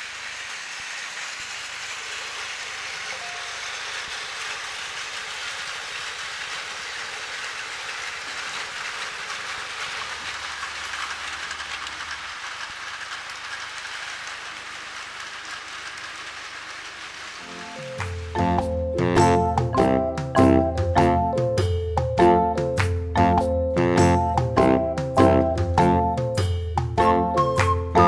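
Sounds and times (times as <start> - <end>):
toy train whirring and rattling: 0.0 - 28.0.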